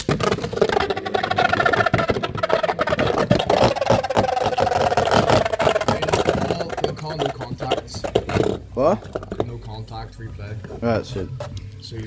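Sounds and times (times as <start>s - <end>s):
spinning tops rattling: 0.0s - 10.1s
spinning tops whine: 0.0s - 11.0s.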